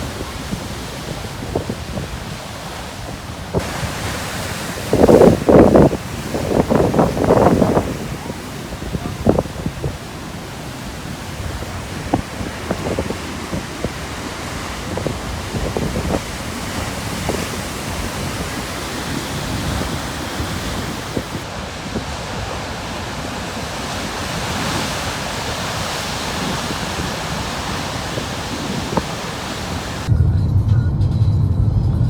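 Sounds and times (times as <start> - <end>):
waves breaking on rocks: 0.0 - 30.1
wind on microphone: 0.0 - 30.6.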